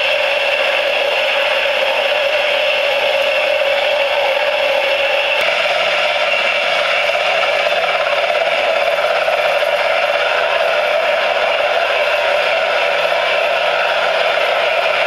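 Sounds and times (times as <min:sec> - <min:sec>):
model aircraft rotors whirring: 0:00.0 - 0:15.0.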